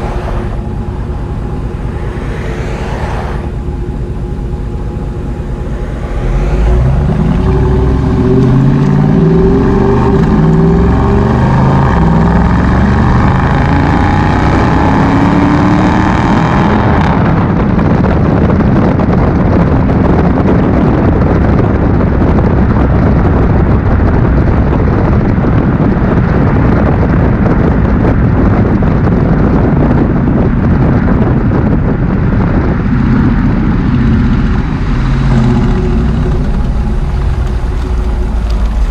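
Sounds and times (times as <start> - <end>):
car engine accelerating loudly: 0.0 - 38.9.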